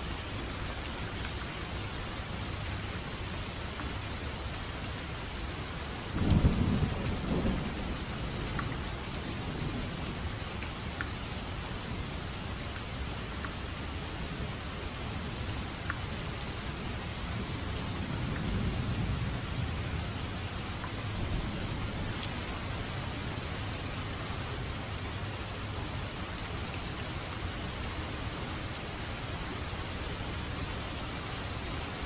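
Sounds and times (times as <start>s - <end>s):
heavy rain on a roof: 0.0s - 32.0s.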